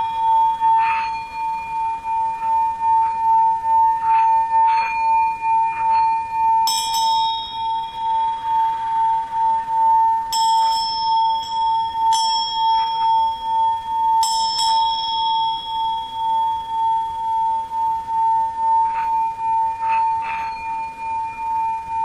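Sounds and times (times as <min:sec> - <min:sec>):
high-pitched bells ringing: 0:00.0 - 0:22.0
singing bowl sustained tone: 0:00.0 - 0:22.0.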